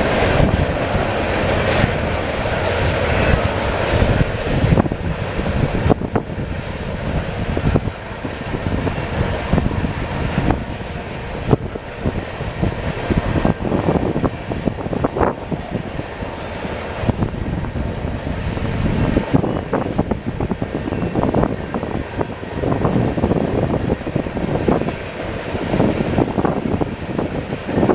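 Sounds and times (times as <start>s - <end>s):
freight train wheels clattering: 0.0s - 27.9s.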